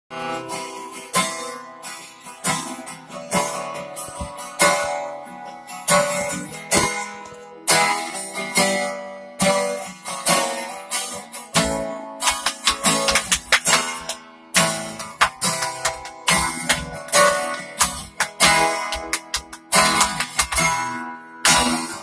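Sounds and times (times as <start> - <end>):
acoustic guitar strumming: 0.1 - 22.0.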